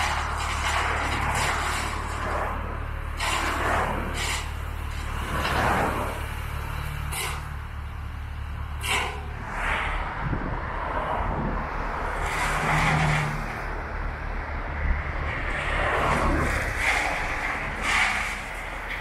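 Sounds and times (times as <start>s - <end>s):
wheel loader diesel engine running: 0.0s - 19.0s.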